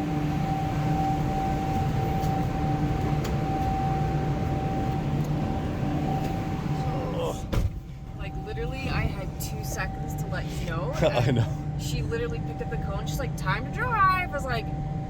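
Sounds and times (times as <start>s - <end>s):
ferry machinery drone: 0.0s - 15.0s.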